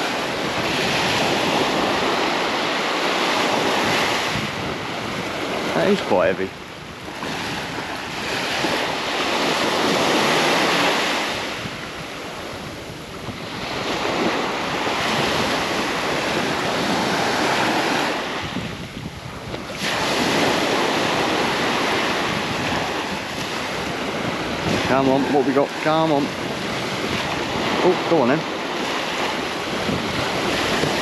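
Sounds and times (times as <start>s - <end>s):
small waves breaking on sand: 0.0s - 31.0s
wind rumbling on microphone: 0.0s - 31.0s.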